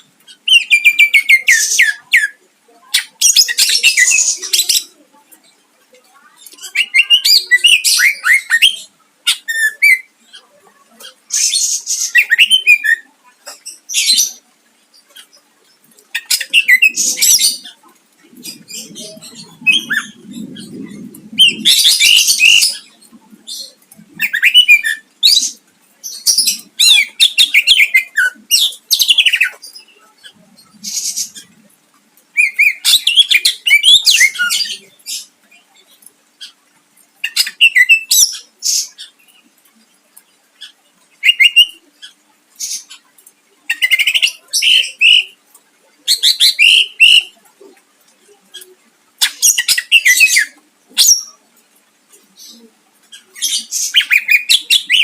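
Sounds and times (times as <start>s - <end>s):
bird singing varied chirps and trills: 0.0s - 55.0s.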